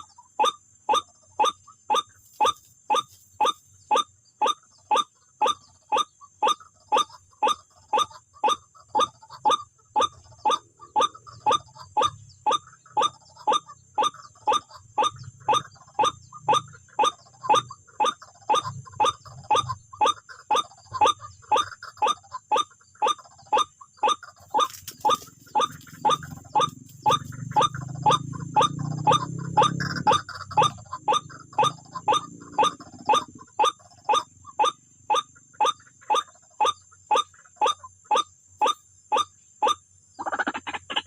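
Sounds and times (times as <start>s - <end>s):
waterhen calling: 0.0s - 41.0s.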